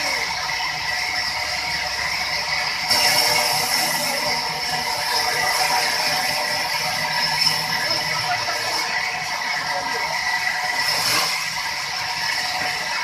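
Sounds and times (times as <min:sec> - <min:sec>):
band saw cutting log: 0:00.0 - 0:13.0.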